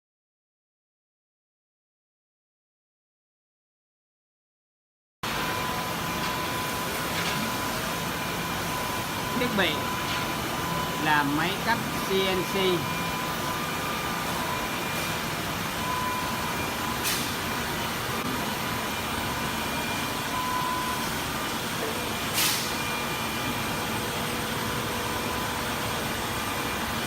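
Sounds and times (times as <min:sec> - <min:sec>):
machine running with whine: 0:05.3 - 0:27.0.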